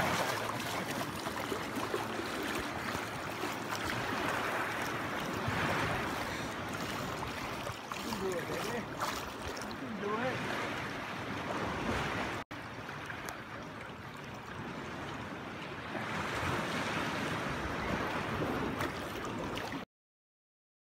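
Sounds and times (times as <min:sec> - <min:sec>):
shallow surf washing: 0:00.0 - 0:14.0, 0:14.6 - 0:19.8
water sloshing around people wading: 0:00.0 - 0:19.8.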